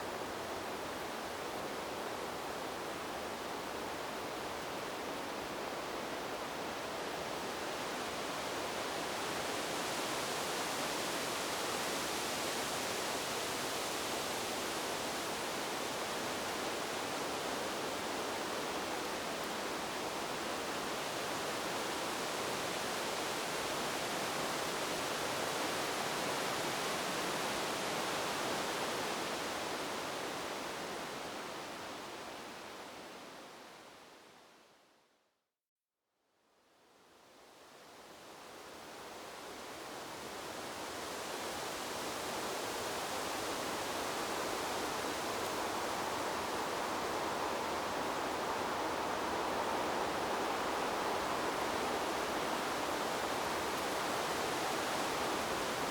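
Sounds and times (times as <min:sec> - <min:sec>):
wind rustling bamboo leaves: 0:00.0 - 0:35.2, 0:36.6 - 0:55.9.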